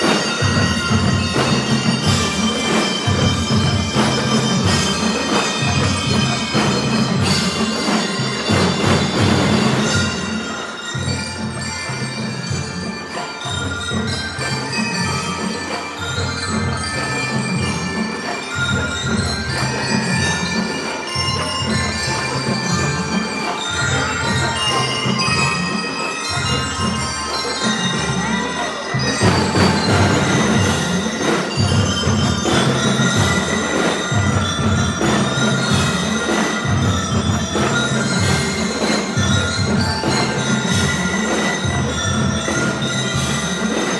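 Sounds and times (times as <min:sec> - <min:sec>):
bell lyres playing melody: 0:00.0 - 0:43.9
steady drum beat: 0:00.0 - 0:43.9.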